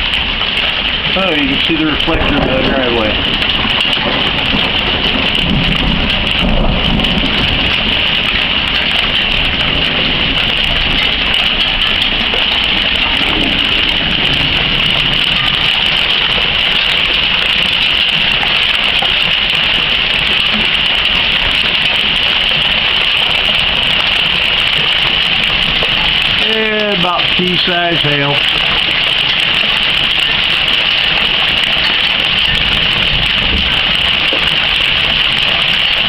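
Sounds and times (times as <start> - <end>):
hail pelting down: 0.0 - 36.0.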